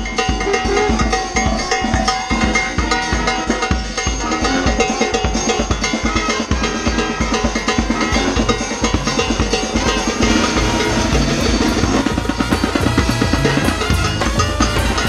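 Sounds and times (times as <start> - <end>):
bass drum and snare beat: 0.0 - 15.0
street brass band playing: 0.0 - 15.0.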